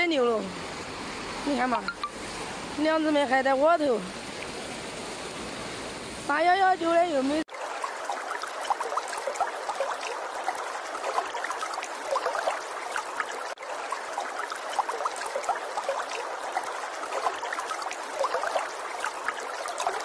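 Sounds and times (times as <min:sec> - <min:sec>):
floodwater rushing and churning: 0:00.0 - 0:20.0.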